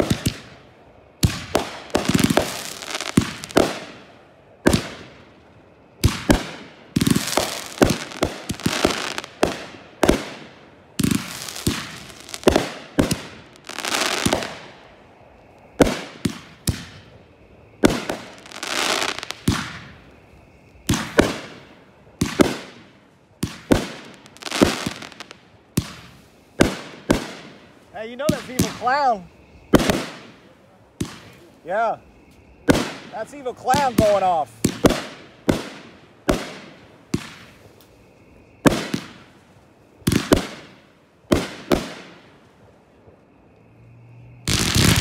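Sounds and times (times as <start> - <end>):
fireworks bangs: 0.0 - 5.3, 6.0 - 15.1, 15.7 - 43.2, 44.4 - 45.0
hissing crackle of fireworks: 0.0 - 45.0.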